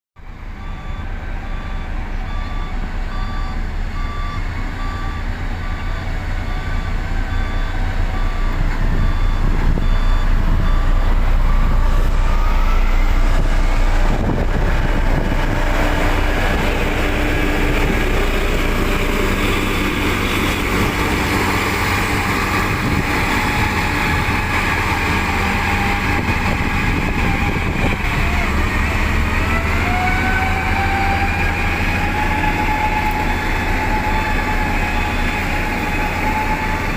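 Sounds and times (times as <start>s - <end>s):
diesel engine running: 0.2s - 36.9s
reversing alarm beeping: 0.3s - 36.9s.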